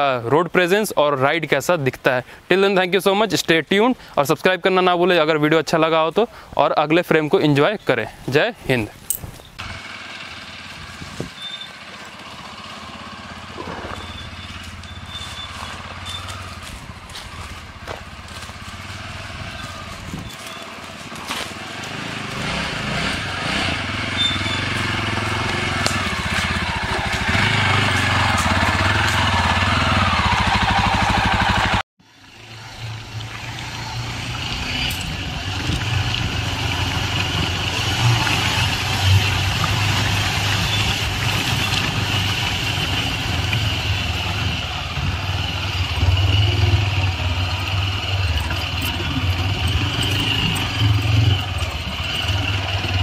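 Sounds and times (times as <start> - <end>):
motorcycle engine running: 9.6 - 53.0.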